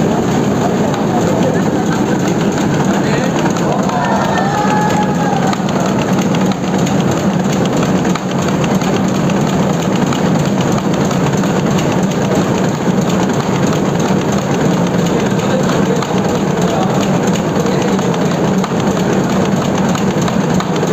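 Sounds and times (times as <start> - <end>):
constant machine hum: 0.0 - 20.9
printing press clatter: 0.0 - 20.9.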